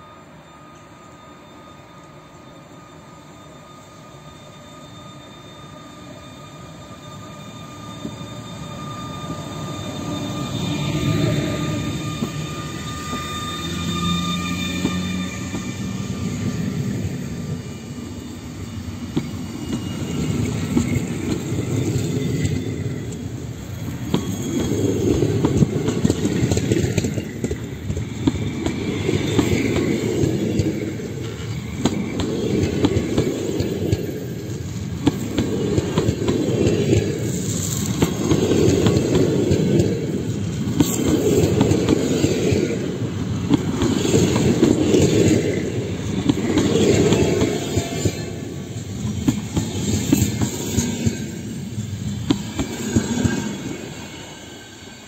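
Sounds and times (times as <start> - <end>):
electric locomotive whine: 0.0 - 55.0
train coaches rolling by: 0.0 - 55.0.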